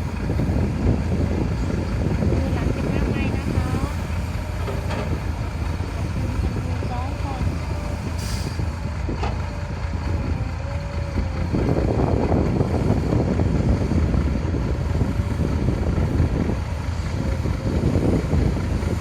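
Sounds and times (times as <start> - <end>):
heavy diesel engines running: 0.0 - 19.0
wind buffeting microphone: 0.0 - 19.0.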